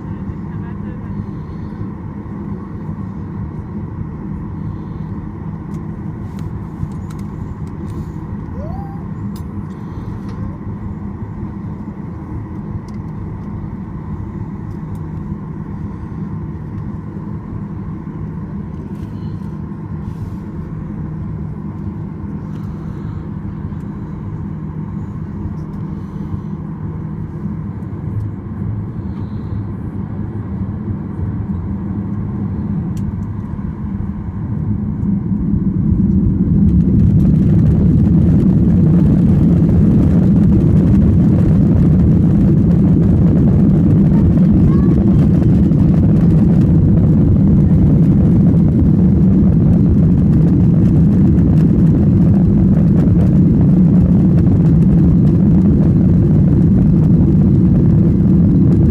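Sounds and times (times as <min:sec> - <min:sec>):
aircraft cabin engine hum: 0:00.0 - 0:58.9.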